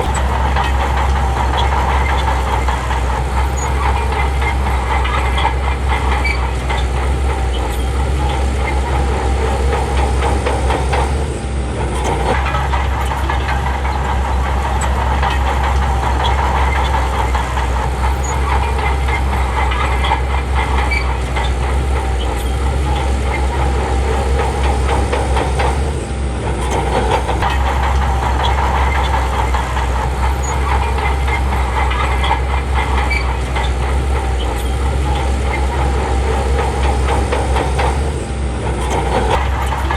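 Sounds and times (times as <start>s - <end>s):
bulldozer diesel engine running: 0.0s - 39.9s
steel tracks clanking: 0.0s - 39.9s.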